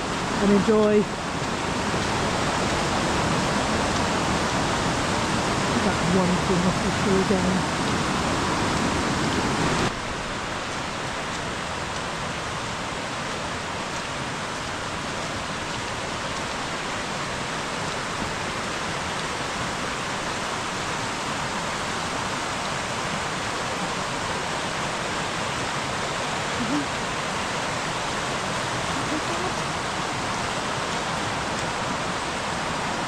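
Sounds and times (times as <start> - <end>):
river rushing: 0.0 - 33.0.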